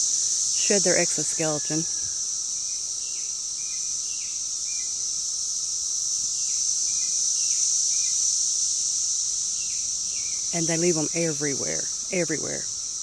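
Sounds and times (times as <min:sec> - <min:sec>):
cicadas singing: 0:00.0 - 0:13.0.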